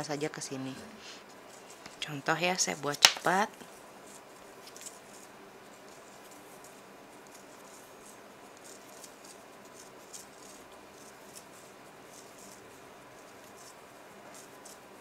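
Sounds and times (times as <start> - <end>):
steady hiss: 0.0 - 15.0
yarn rustling on knitting needle: 0.6 - 15.0.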